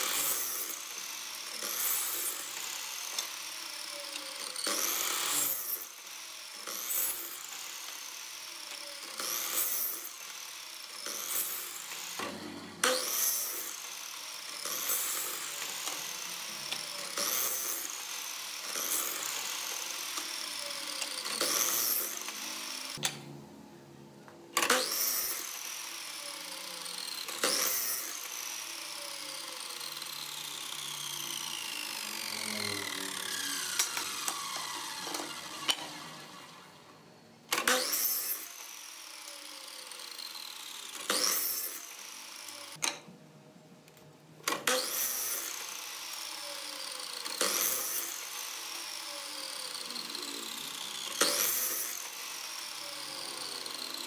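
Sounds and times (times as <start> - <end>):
miter saw spinning and cutting: 0.0 - 23.2, 24.6 - 42.9, 44.5 - 54.0.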